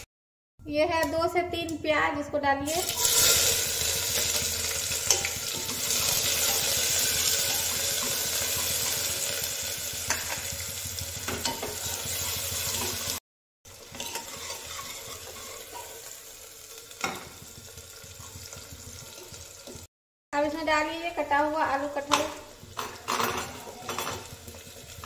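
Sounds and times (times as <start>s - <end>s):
onions sizzling in hot oil: 2.7s - 19.9s, 21.3s - 25.0s.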